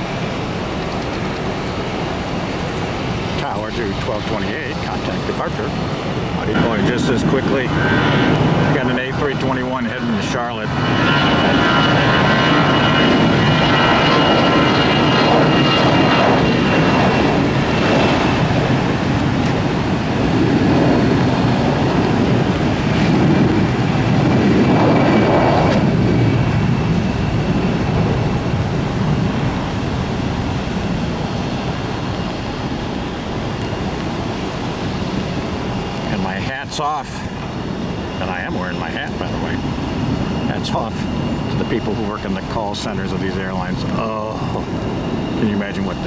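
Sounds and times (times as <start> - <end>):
faint high whine: 0.0 - 46.0
jet engines rumbling: 0.0 - 46.0.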